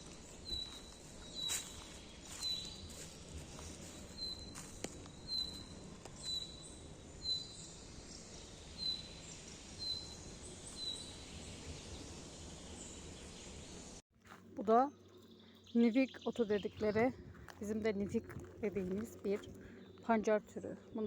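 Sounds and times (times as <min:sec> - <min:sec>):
birds chirping: 0:00.0 - 0:14.0, 0:14.7 - 0:21.0
outdoor background noise: 0:00.0 - 0:21.0.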